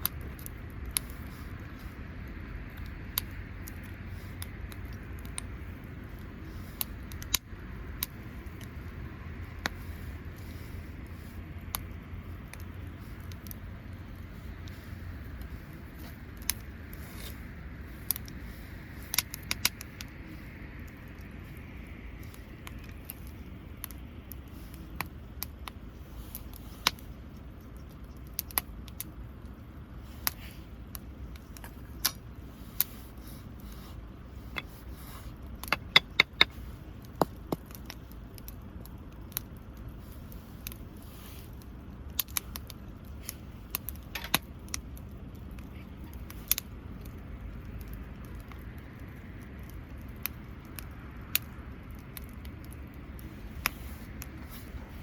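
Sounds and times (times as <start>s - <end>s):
campfire crackling: 0.0s - 55.0s
low steady background: 0.0s - 55.0s.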